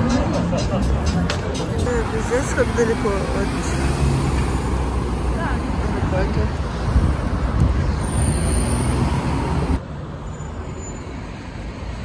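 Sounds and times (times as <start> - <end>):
street traffic passing cars: 0.0 - 12.0.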